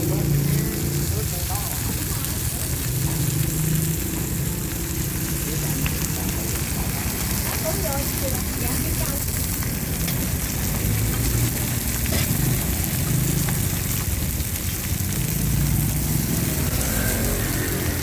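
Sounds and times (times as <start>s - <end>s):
food sizzling in stir-fry: 0.0s - 18.0s
low rumble: 0.0s - 18.0s.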